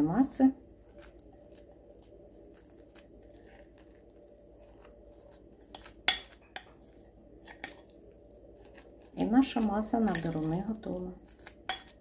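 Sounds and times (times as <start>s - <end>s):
spoon scraping in glass bowl: 0.9s - 8.0s, 8.6s - 12.0s.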